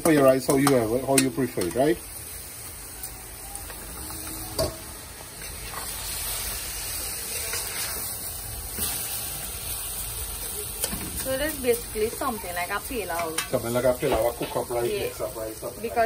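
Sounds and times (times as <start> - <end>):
rice sizzling in hot oil: 0.0 - 16.0.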